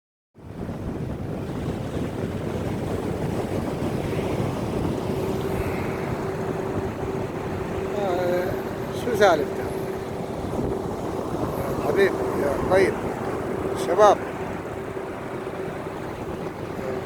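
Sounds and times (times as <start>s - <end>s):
sea noise: 0.4s - 17.0s
wind rumbling on microphone: 0.4s - 17.0s
steady engine hum: 1.2s - 17.0s.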